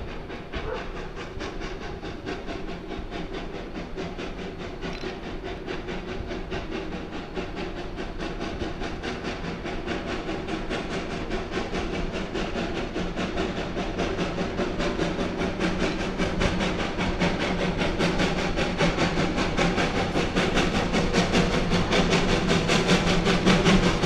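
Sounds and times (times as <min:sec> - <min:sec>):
steam locomotive exhaust beat: 0:00.0 - 0:24.0.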